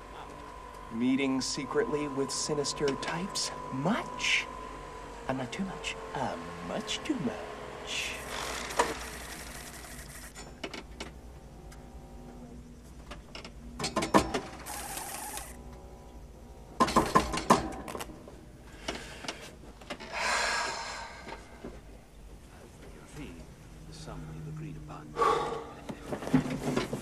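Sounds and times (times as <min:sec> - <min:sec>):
faint machinery hum: 0:00.0 - 0:27.0.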